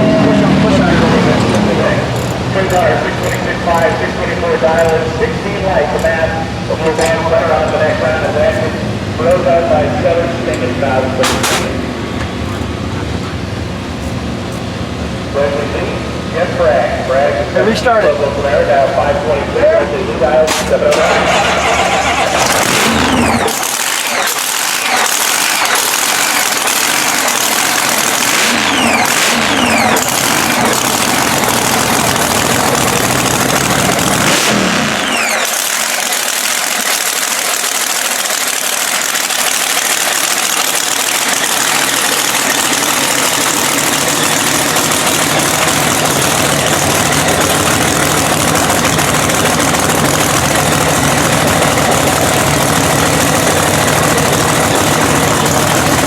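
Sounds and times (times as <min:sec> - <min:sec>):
drag-racing engine revving and idling: 0:00.0 - 0:56.0.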